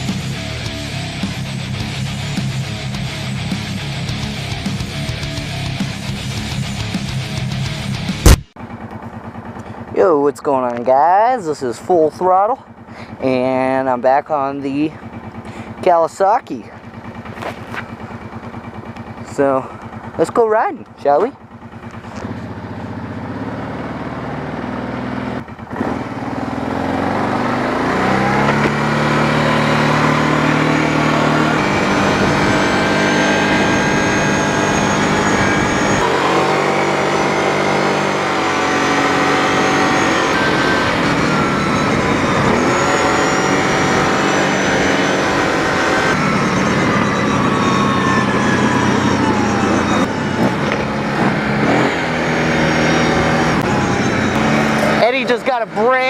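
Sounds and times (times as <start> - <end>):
motorcycle engine shifting gears: 0.0 - 10.9, 14.6 - 56.0.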